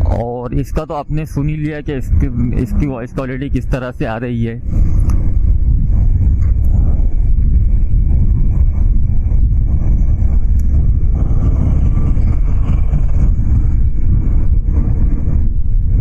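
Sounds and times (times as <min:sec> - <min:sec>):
motorcycle road rumble: 0:00.0 - 0:16.0
wind noise on microphone: 0:00.0 - 0:16.0.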